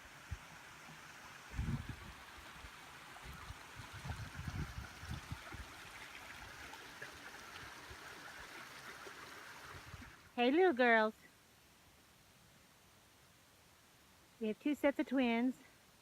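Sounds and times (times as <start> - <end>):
creek water flowing: 0.0 - 14.4.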